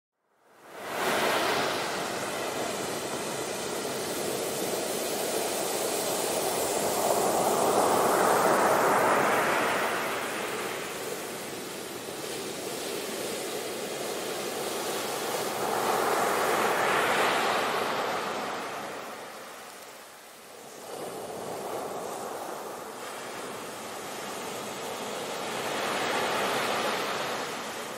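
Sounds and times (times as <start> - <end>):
waves breaking on shore: 0.5 - 27.9.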